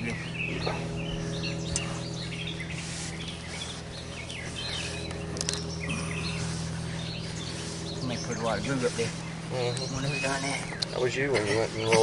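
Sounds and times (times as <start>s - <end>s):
birds chirping: 0.0s - 12.0s
low machine hum: 0.0s - 12.0s.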